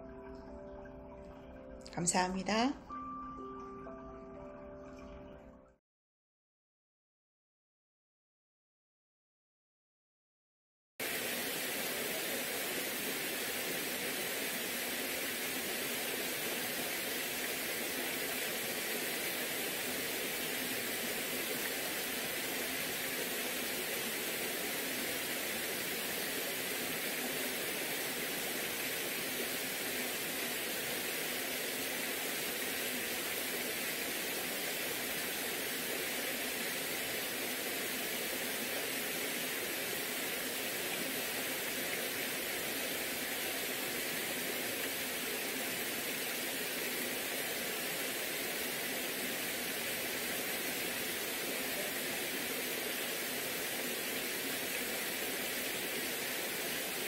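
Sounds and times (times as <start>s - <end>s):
stream rushing over rocks: 11.0s - 57.0s.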